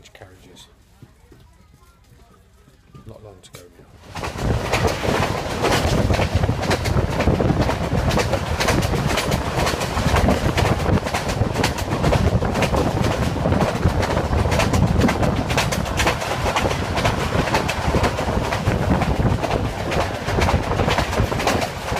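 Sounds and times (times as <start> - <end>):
wheels clicking and rattling on rails: 0.0 - 21.9
train wheels rumbling: 3.9 - 21.9.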